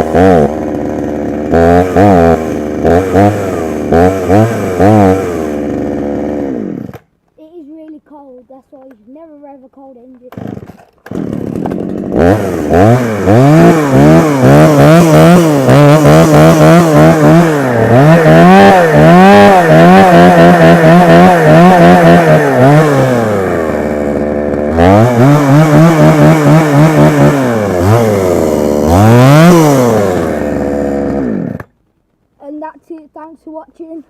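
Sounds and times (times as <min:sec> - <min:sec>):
chainsaw engine revving: 0:00.0 - 0:07.1, 0:10.2 - 0:31.8.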